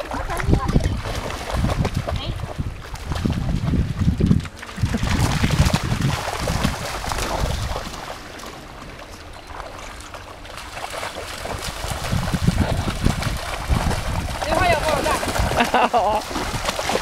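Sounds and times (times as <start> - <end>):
dogs splashing through water: 0.0 - 17.0.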